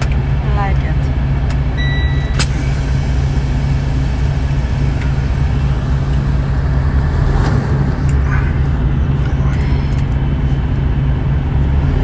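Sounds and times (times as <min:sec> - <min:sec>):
truck engine rumble: 0:01.5 - 0:12.0
road noise: 0:02.2 - 0:12.0.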